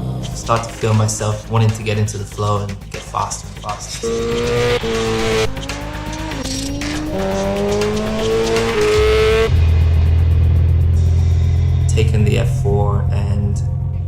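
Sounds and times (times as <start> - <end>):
loud steady low drone: 0.0 - 14.0
motorcycle engine revving: 0.0 - 14.0.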